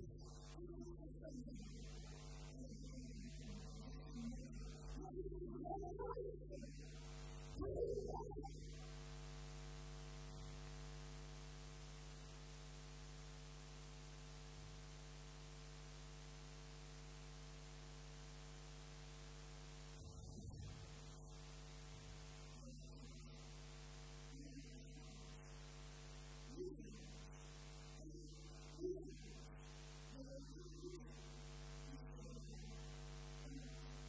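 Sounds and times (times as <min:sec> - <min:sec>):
steady electrical hum: 0:00.0 - 0:34.0.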